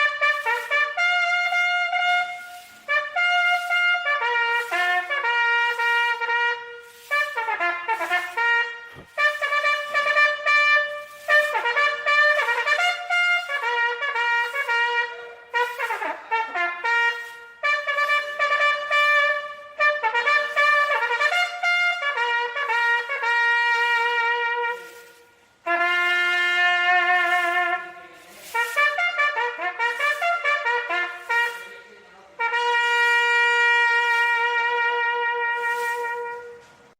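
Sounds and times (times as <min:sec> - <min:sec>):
solo bugle call: 0:00.0 - 0:36.9.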